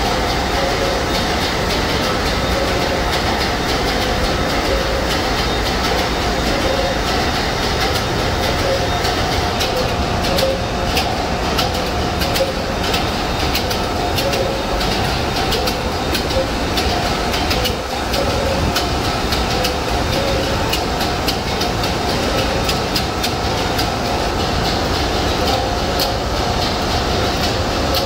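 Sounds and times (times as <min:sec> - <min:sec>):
marine diesel engine running: 0:00.0 - 0:28.0.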